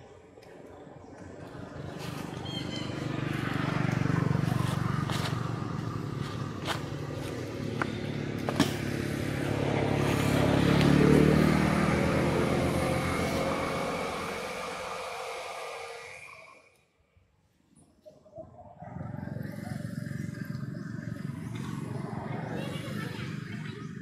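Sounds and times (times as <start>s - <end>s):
motor vehicle passing: 0.9s - 16.6s, 18.6s - 24.0s.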